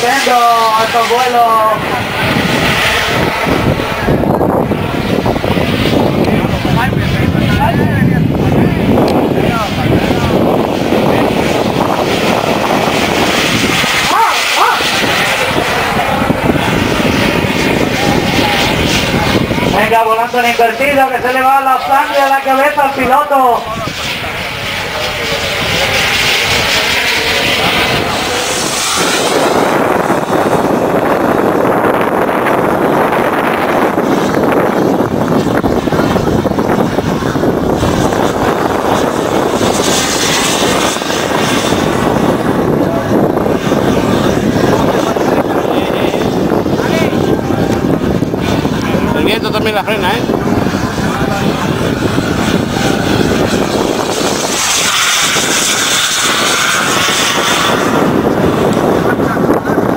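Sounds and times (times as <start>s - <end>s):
high turbine whine: 0.0s - 59.9s
model airplane engine droning: 0.0s - 59.9s.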